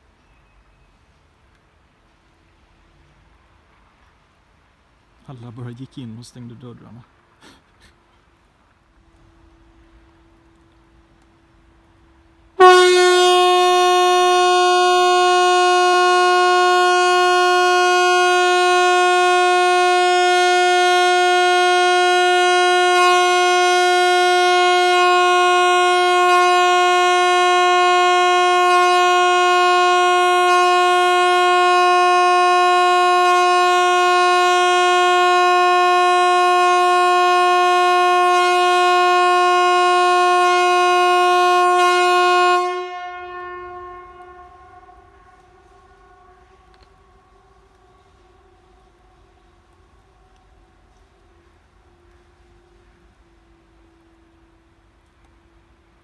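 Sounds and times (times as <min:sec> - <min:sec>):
outdoor warning siren steady tone: 0:09.3 - 0:55.0.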